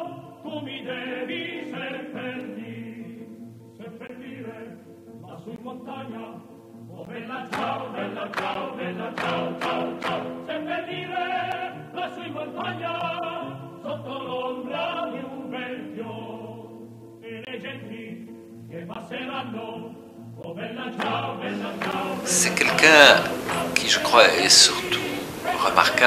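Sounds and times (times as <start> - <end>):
choir singing held notes: 0.0 - 3.3, 4.0 - 16.8, 18.8 - 26.0.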